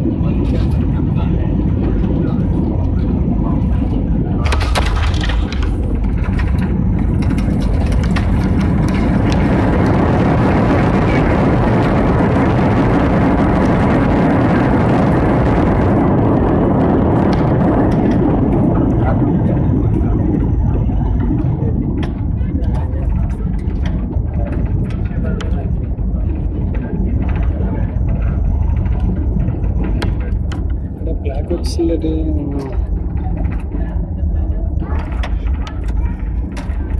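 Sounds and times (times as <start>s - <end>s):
jet engines and rushing air: 0.0s - 36.9s.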